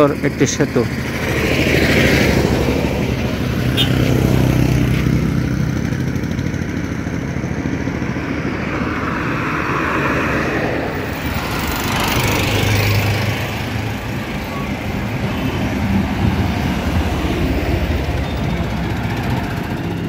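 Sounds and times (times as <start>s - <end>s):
heavy engine hum: 0.0s - 20.0s
car tyre noise passing: 0.3s - 20.0s
motorcycle passing: 0.9s - 20.0s.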